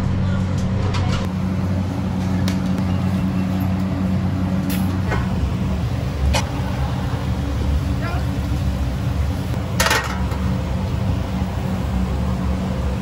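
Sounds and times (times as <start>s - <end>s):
kitchen gas burners humming: 0.0s - 13.0s.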